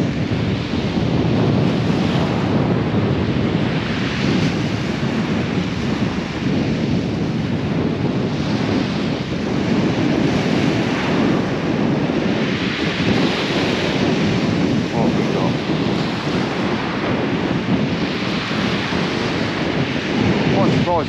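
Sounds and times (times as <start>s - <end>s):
surf on shingle beach: 0.0s - 21.0s
wind buffeting microphone: 0.0s - 21.0s.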